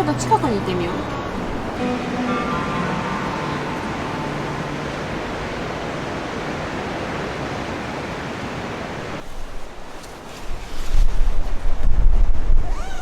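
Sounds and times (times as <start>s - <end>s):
ocean surf: 0.0s - 13.0s
strong wind: 0.0s - 13.0s.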